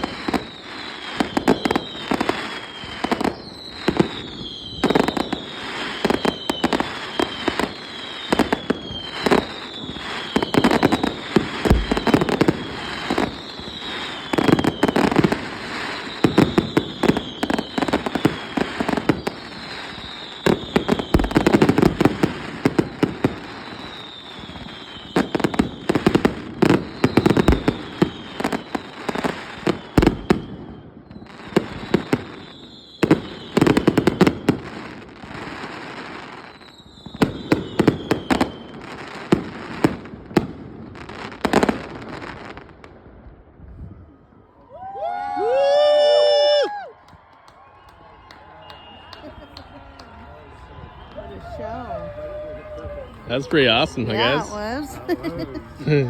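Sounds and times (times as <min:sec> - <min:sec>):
falling firework whistles: 0:00.0 - 0:42.8, 0:44.7 - 0:54.5
fireworks bangs and booms: 0:00.0 - 0:56.0.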